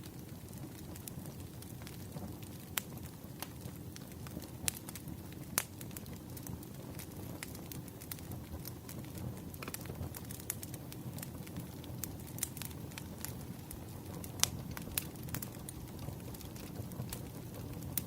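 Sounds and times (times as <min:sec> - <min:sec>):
crackles and pops of burning logs: 0:00.0 - 0:18.0
wood fire rumbling: 0:00.0 - 0:18.0.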